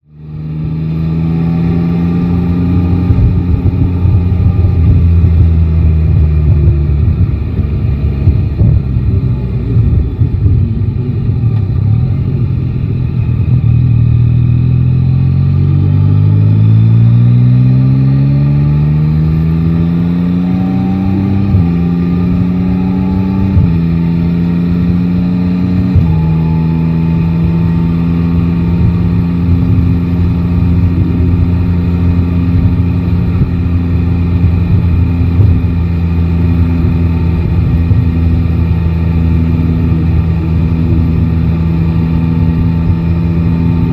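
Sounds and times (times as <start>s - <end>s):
motorcycle engine accelerating: 0.0s - 43.9s
road and wind noise: 0.0s - 43.9s.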